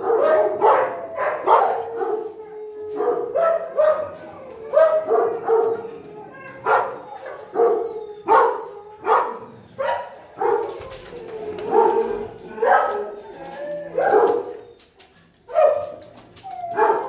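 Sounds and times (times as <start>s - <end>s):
large dogs barking: 0.0s - 17.0s.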